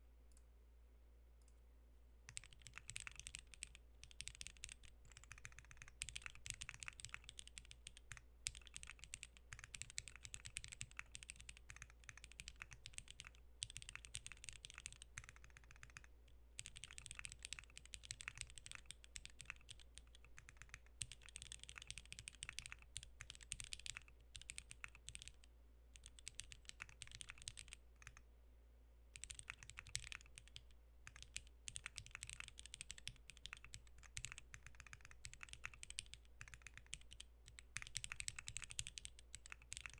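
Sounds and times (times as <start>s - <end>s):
mechanical keyboard typing: 2.3s - 28.2s, 29.2s - 39.9s.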